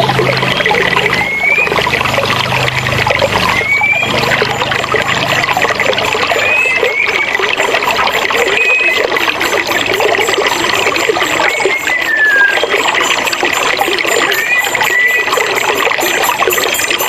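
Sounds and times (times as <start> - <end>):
bird whistling rising notes: 0.4 - 9.3, 11.0 - 17.0.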